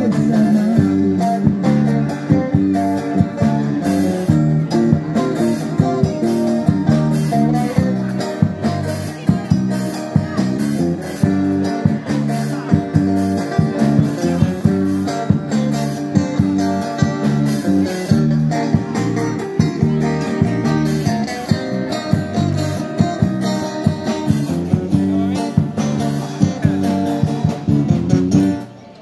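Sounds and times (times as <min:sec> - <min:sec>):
band playing guitar and bass: 0:00.0 - 0:29.0.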